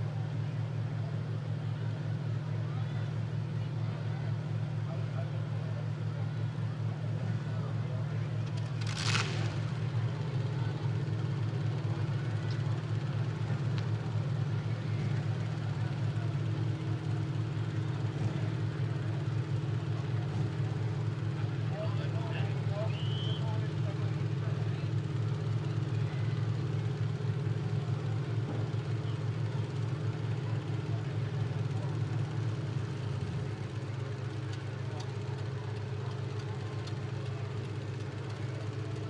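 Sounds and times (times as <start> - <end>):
engines idling drone: 0.0 - 39.0.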